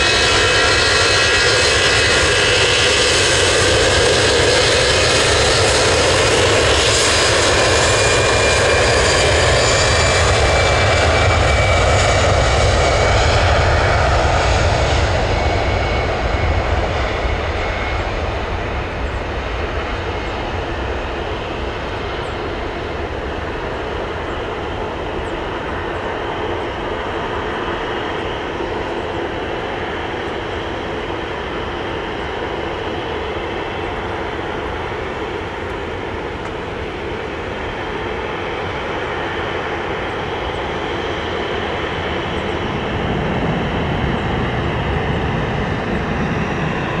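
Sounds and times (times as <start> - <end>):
jet engine roar at takeoff: 0.0 - 47.0.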